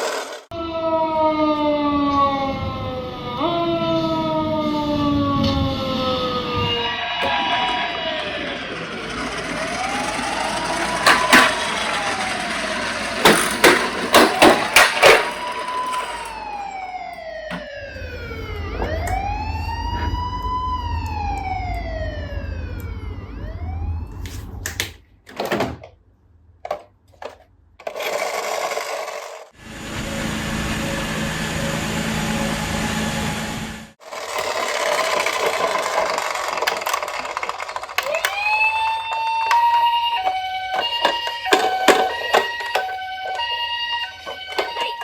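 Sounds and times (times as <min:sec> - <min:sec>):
emergency vehicle siren wailing: 0:00.5 - 0:24.6, 0:29.6 - 0:45.0.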